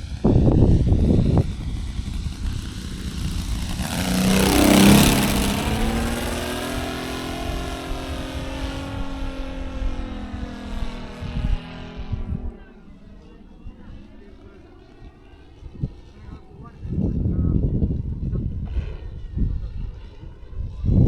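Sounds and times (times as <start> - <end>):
model plane engine flying past: 0.0 - 21.0.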